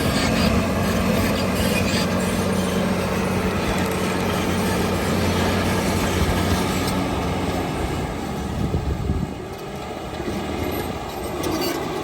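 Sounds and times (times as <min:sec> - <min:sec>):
bulldozer diesel engine under load: 0:00.0 - 0:12.0.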